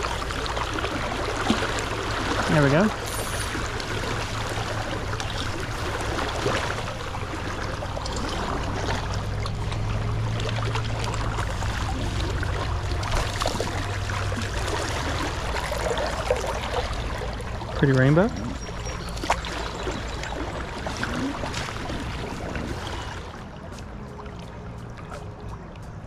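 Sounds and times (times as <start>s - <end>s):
river current rushing: 0.0s - 24.7s.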